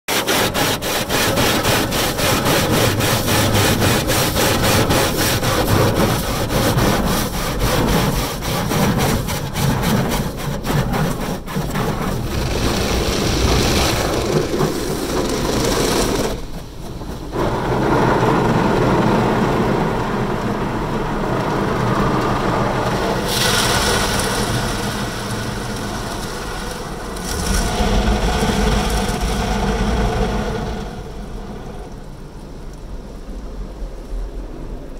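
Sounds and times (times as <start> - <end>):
water spraying: 0.1 - 20.2, 21.0 - 31.3
car wash brushes slapping: 0.1 - 29.5.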